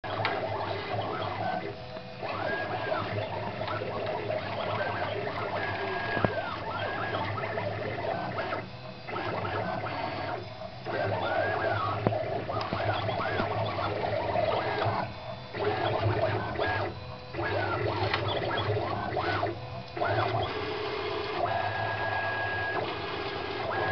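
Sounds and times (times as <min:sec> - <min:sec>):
stepper motors whining: 0:00.0 - 0:23.9.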